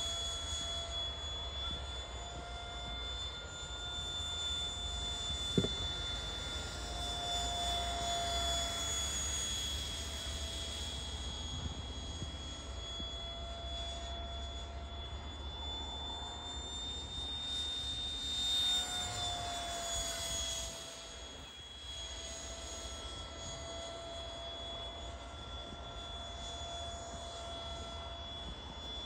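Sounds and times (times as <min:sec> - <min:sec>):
electric ducted fan whining: 0:00.0 - 0:29.0.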